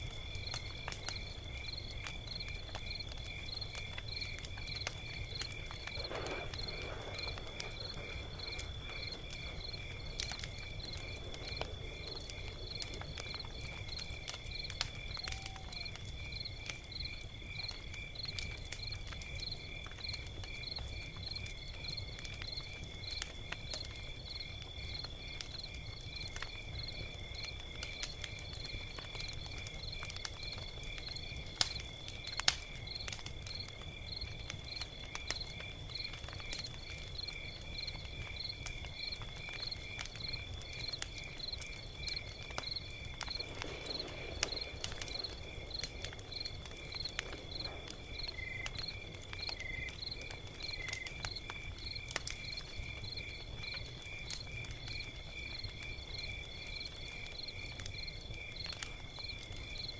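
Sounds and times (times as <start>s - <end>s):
crickets chirping: 0.0s - 59.9s
log fire crackling and popping: 0.0s - 59.9s.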